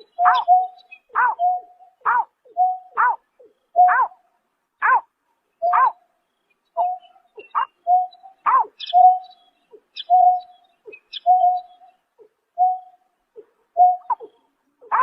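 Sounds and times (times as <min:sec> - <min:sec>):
bird low hooting notes: 0:00.0 - 0:04.2, 0:06.8 - 0:15.0.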